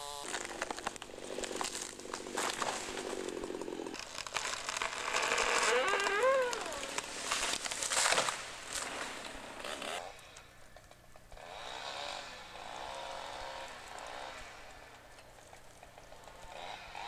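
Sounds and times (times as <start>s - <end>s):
brush crackling and crunching: 0.0s - 17.0s
distant chainsaw running: 0.0s - 17.0s.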